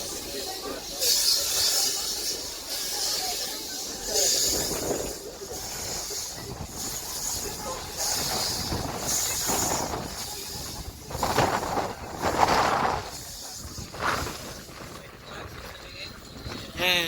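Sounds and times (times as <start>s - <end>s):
steam locomotive chuffing: 0.0s - 16.3s.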